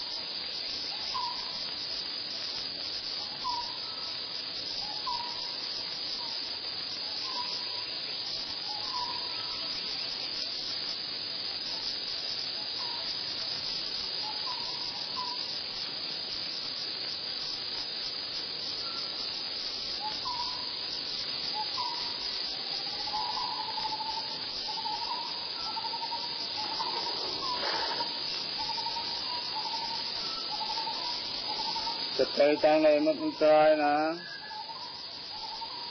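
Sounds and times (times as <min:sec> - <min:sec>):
insect chirps and trill: 0:00.0 - 0:35.9
insect chorus hiss: 0:00.0 - 0:35.9.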